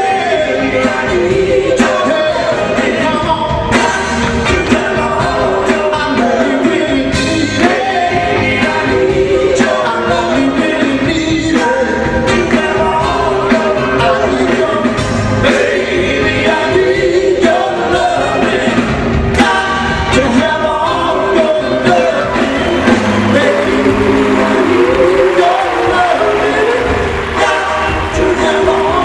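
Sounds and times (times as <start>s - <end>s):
song with singing and drums: 0.0s - 29.0s.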